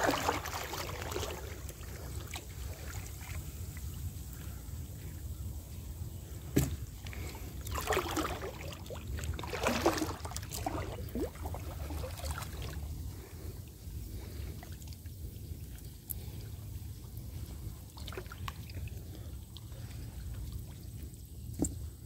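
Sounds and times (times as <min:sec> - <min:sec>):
water splashing and sloshing: 0:00.0 - 0:05.3, 0:06.4 - 0:22.0
steady low rumble: 0:00.0 - 0:22.0.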